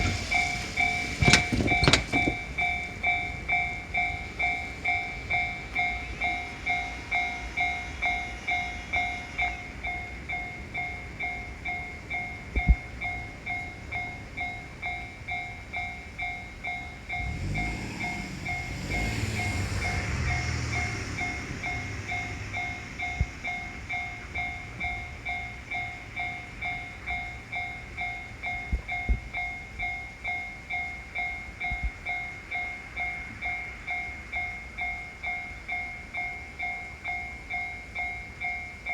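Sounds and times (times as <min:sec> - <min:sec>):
railroad crossing bell clanging: 0:00.0 - 0:38.9
train rumbling past: 0:00.0 - 0:38.9.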